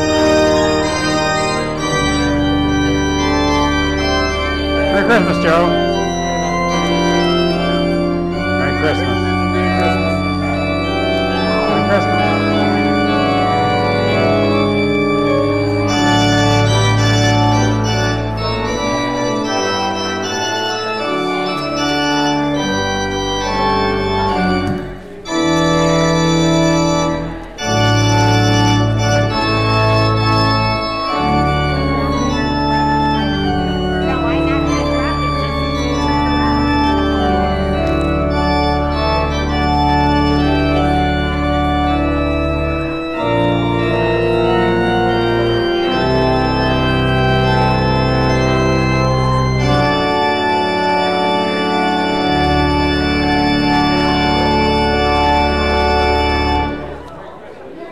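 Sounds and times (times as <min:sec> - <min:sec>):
deep organ bass note: 0:00.0 - 0:56.9
church organ chords: 0:00.0 - 0:57.3.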